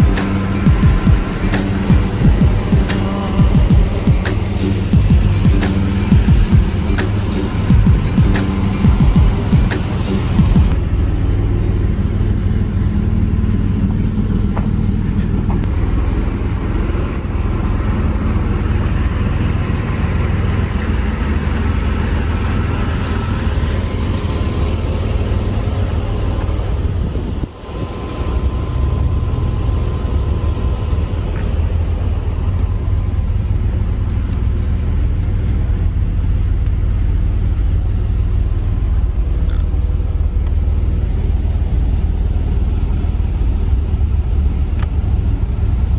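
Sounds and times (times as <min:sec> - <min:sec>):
car engine running: 0:00.0 - 0:45.9
road noise: 0:00.0 - 0:45.9.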